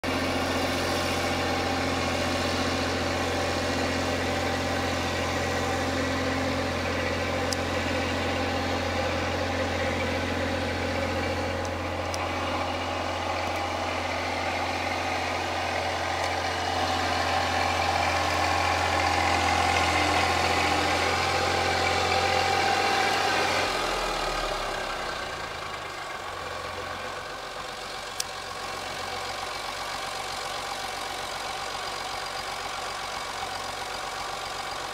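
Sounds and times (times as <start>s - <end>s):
flail mower cutting grass: 0.0s - 31.4s
tractor engine running: 0.0s - 34.9s.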